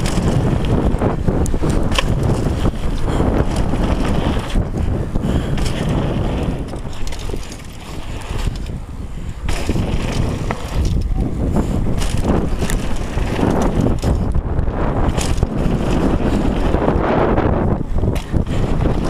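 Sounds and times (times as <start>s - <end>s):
bike clattering over bumps: 0.0s - 19.0s
bike tyres on dirt trail: 0.0s - 19.0s
wind buffeting microphone: 0.0s - 19.0s.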